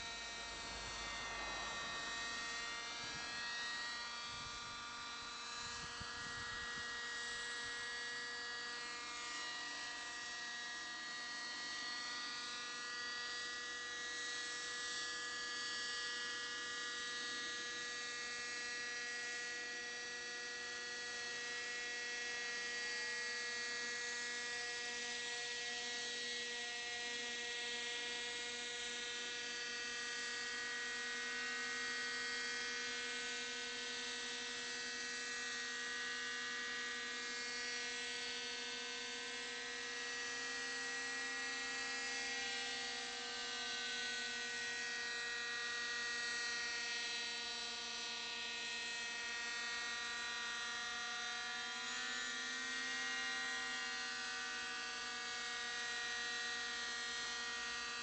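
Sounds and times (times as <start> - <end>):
model helicopter engine whine: 0.0 - 58.0.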